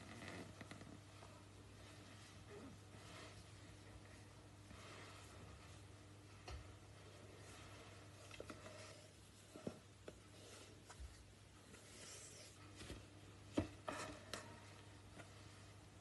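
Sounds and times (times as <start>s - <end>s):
low steady hum: 0.0s - 16.0s
cloth rustling and rubbing: 0.1s - 13.3s.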